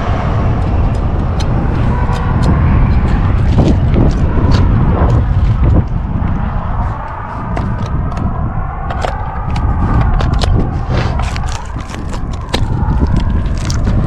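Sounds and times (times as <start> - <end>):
wind buffeting microphone: 0.0 - 14.0
sharp clicks and scrapes: 0.6 - 14.0.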